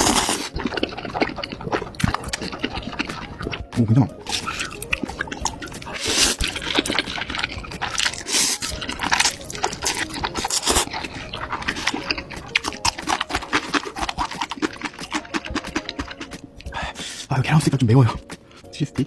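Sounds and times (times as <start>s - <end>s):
slurping noodles: 0.0s - 17.3s
wet chewing: 0.0s - 17.3s.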